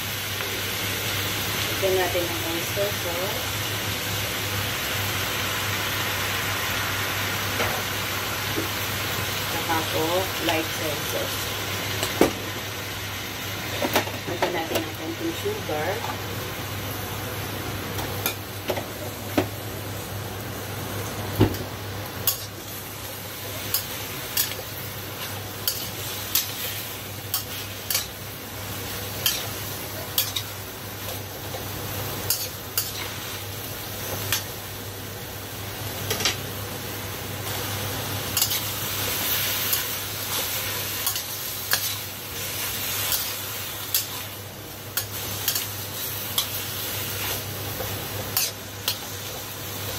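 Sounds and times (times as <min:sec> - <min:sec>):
food sizzling in a wok: 0:00.0 - 0:49.9.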